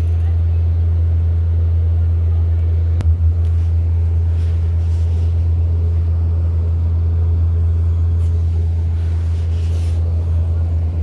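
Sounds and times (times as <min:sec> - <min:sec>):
motor vehicle low rumble: 0:00.0 - 0:11.0.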